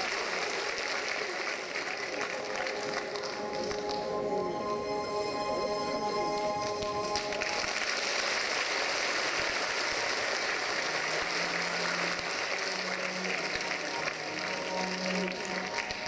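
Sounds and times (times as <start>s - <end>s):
audience applauding: 0.0s - 4.5s, 6.2s - 16.0s
performance music: 0.0s - 16.0s.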